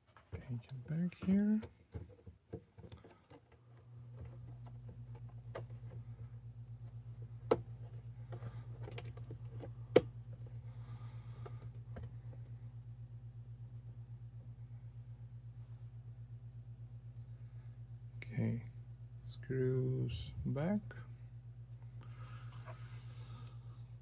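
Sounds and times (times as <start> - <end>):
pulsing low hum: 3.9 - 24.0.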